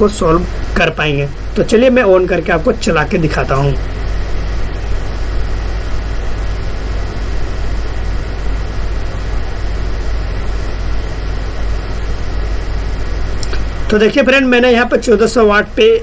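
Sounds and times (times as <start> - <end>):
cooling fan whirring: 0.0 - 16.0
low hum: 0.0 - 16.0.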